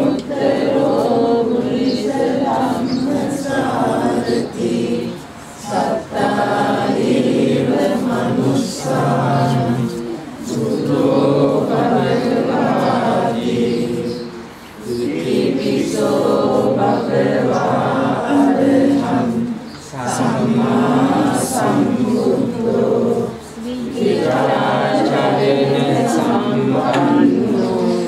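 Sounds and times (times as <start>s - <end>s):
group of voices chanting: 0.0s - 28.0s.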